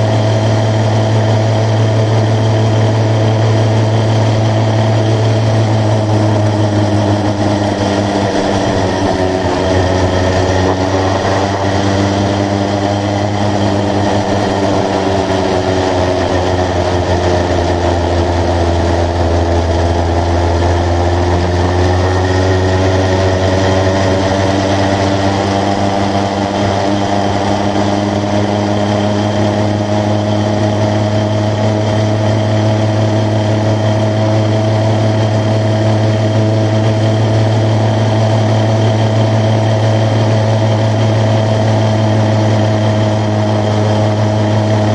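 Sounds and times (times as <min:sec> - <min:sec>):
motorised bicycle engine running: 0:00.0 - 0:44.9.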